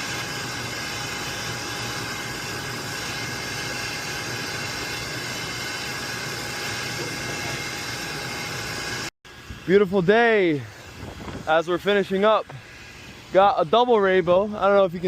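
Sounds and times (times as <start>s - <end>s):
hvac equipment rush and whine: 0.0s - 15.0s.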